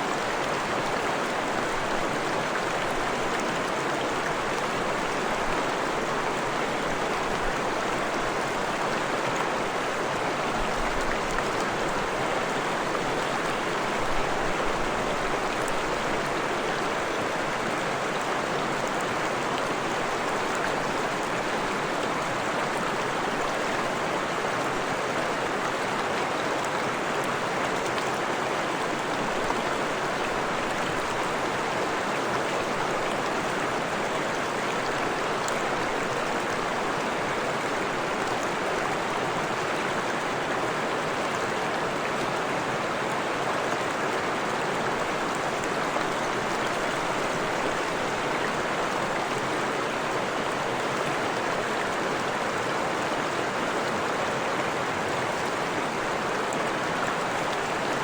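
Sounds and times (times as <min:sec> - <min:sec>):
stream flowing and splashing: 0:00.0 - 0:58.0.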